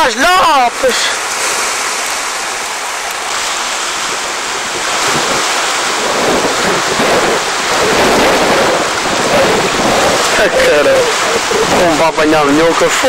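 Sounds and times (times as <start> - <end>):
sea surf rushing: 0.0 - 13.0
wind buffeting microphone: 0.0 - 13.0.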